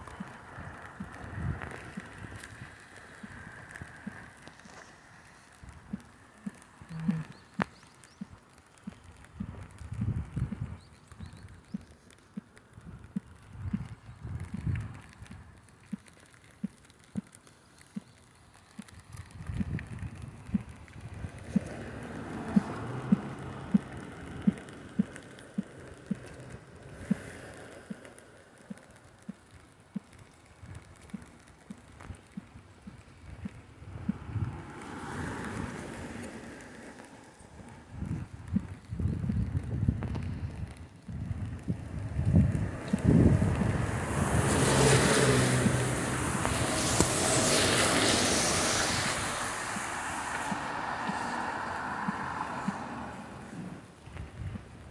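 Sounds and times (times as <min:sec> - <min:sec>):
footsteps on wet concrete: 0:00.0 - 0:39.0, 0:39.6 - 0:54.8
low car engine hum: 0:00.0 - 0:54.9
rain hissing: 0:00.0 - 0:54.9.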